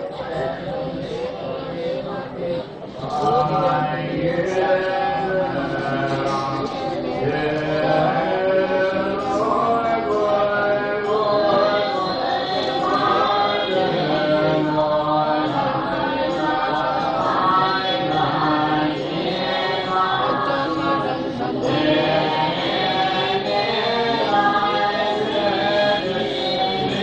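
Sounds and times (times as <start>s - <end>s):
group of voices chanting: 0.0s - 27.0s.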